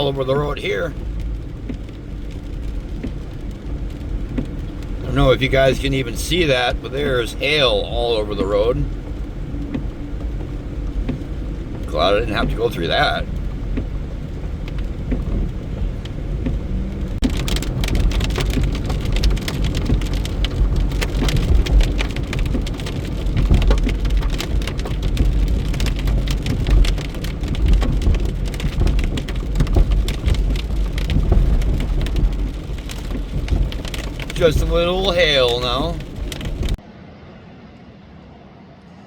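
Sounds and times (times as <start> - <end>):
rain and hail pelting car: 0.0 - 36.8
moving car rumble: 0.0 - 39.0.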